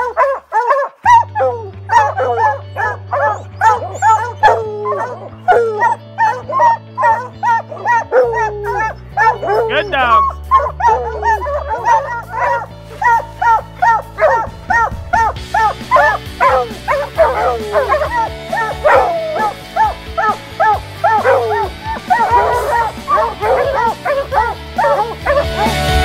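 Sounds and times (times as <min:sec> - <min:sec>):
background music: 0:00.0 - 0:26.0
hounds barking: 0:00.0 - 0:26.0.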